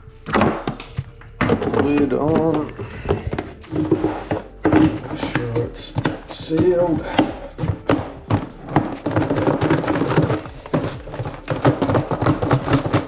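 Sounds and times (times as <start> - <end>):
container lid knocks and thumps: 0.3 - 13.0.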